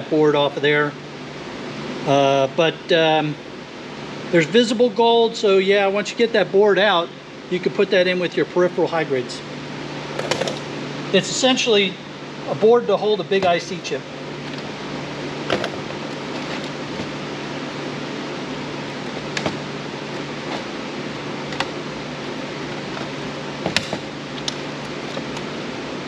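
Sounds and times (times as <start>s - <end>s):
fan hiss and hum: 0.0s - 26.0s.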